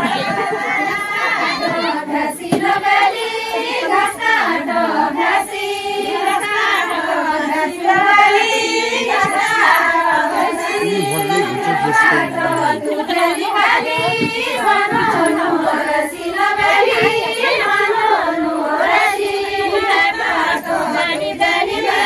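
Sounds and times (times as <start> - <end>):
women singing in chorus: 0.0 - 22.0.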